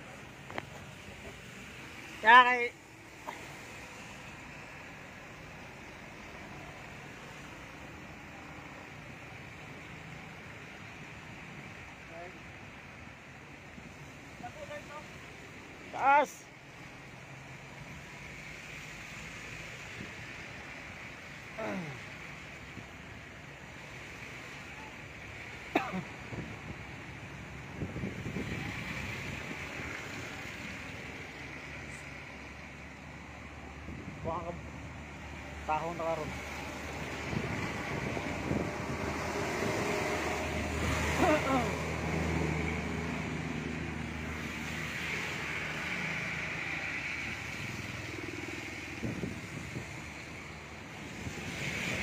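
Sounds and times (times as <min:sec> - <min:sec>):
road noise: 0:00.0 - 0:52.0
rushing floodwater: 0:00.0 - 0:52.0
wind: 0:00.0 - 0:52.0.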